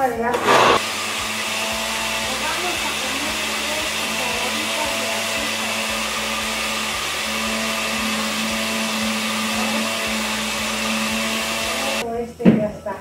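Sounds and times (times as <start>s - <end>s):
electric blender running: 0.3s - 12.0s.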